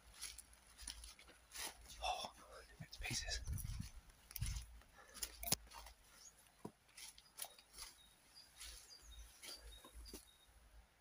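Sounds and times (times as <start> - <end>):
footsteps crunching dead leaves: 0.0 - 2.3, 2.9 - 10.3.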